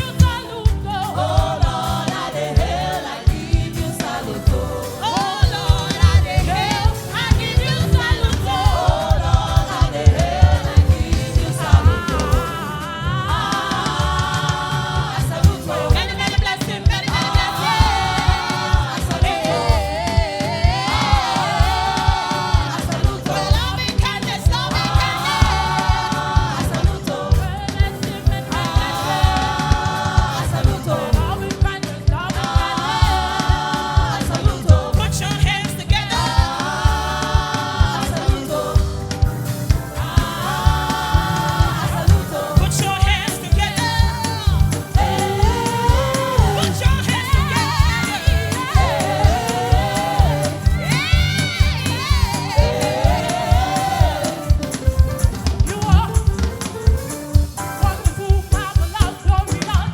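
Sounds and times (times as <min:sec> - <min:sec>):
band with steady beat: 0:00.0 - 0:59.9
choir singing gospel: 0:00.0 - 0:59.9.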